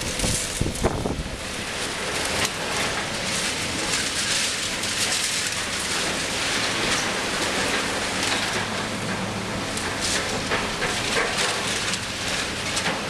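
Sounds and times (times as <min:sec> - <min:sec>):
excavator diesel engine hum: 0:00.0 - 0:13.0.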